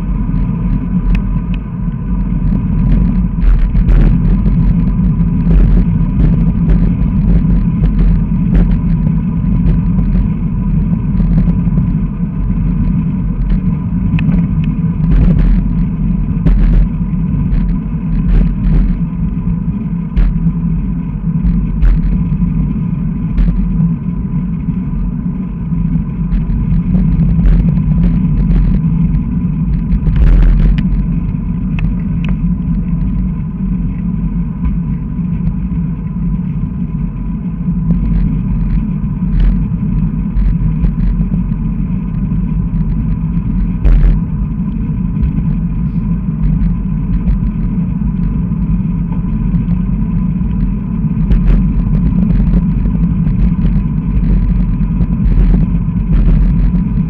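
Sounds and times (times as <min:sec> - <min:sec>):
wind buffeting and road rumble: 0:00.0 - 0:57.0.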